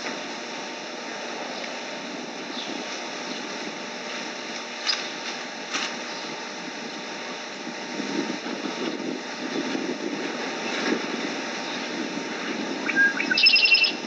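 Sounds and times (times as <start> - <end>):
wind and water hiss: 0.0 - 14.0.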